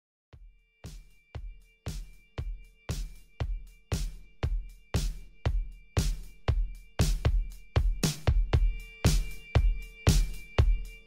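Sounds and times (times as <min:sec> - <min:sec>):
steady drum beat: 0:00.4 - 0:11.0.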